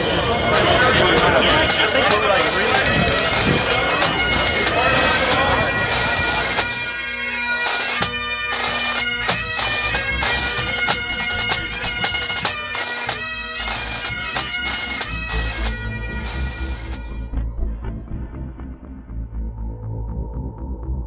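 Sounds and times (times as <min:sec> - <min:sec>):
bagpipes playing: 0:00.0 - 0:17.4.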